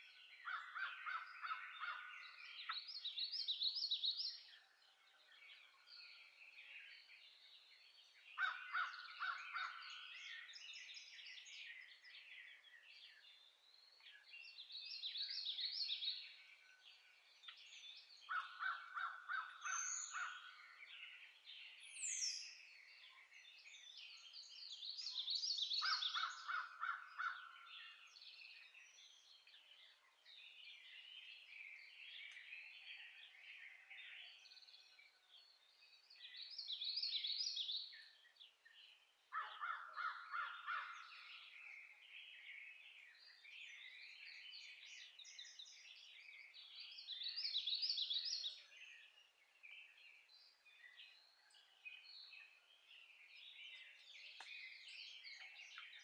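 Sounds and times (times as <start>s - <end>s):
birds singing trilled phrases: 0.0s - 56.0s.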